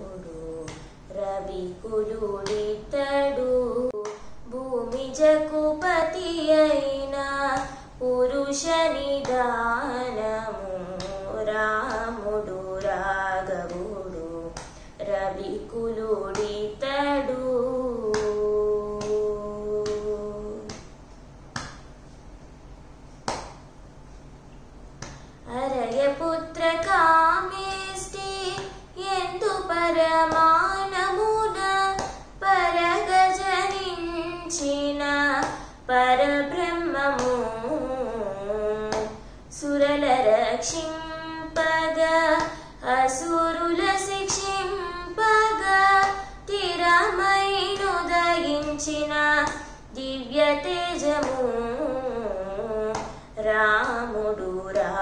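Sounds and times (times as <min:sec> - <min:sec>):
woman singing: 0:00.0 - 0:20.9, 0:25.4 - 0:55.0.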